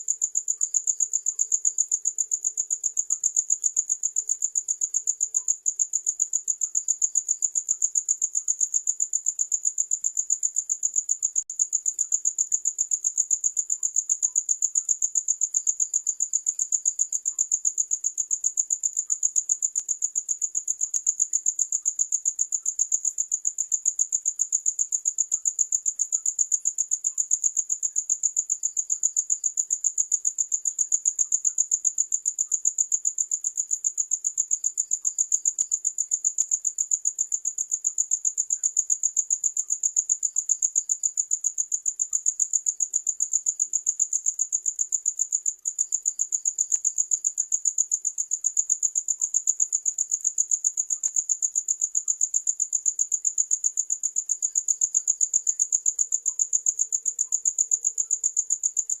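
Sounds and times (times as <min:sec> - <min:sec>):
fainter lower cricket: 0:00.0 - 0:59.0
high-pitched cricket chirping: 0:00.0 - 0:59.0.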